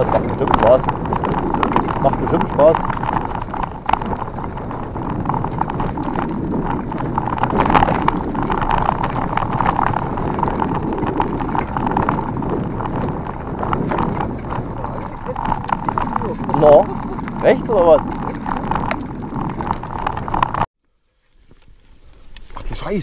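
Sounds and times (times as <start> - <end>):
bike knocks and rattles: 0.0 - 20.7
wind noise on microphone: 0.0 - 20.7
bicycle tyres on loose ground: 0.0 - 23.0.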